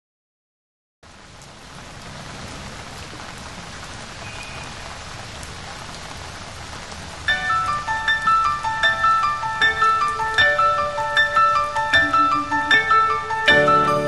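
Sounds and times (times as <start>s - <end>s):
steady rain falling: 1.0s - 14.0s.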